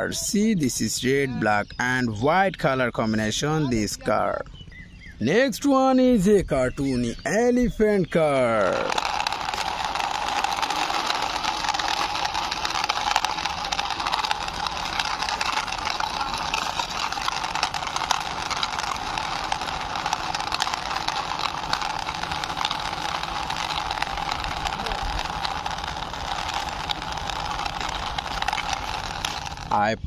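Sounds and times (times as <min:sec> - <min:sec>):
toy car wheels rolling on stone: 0:00.0 - 0:04.4, 0:05.3 - 0:30.0.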